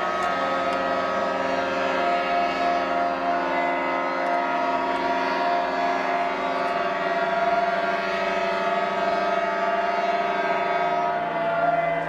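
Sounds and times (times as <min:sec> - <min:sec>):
boat horns blowing: 0:00.0 - 0:12.0.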